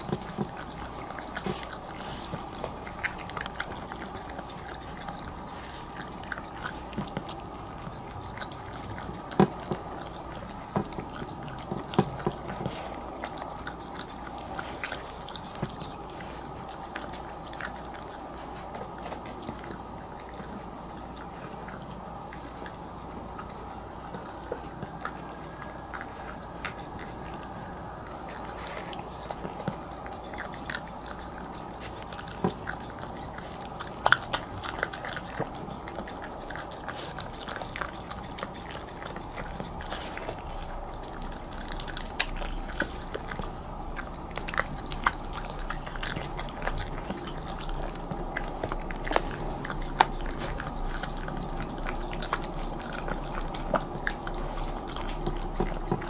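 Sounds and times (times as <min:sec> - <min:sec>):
dog licking and chewing: 0:00.0 - 0:56.0
faint hum: 0:00.0 - 0:56.0.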